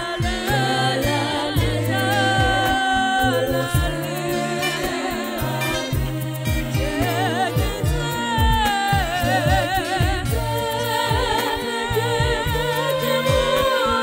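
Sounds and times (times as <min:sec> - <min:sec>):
backing music: 0:00.0 - 0:14.0
steady drum beat: 0:00.0 - 0:14.0
voices singing with vibrato: 0:00.0 - 0:14.0.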